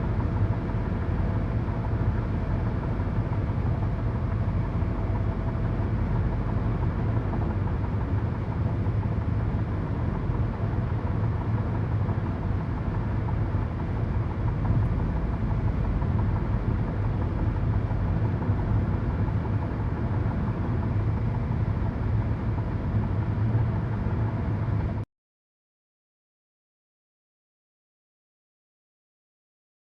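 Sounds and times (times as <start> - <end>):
car cabin road and engine noise: 0.0 - 25.0.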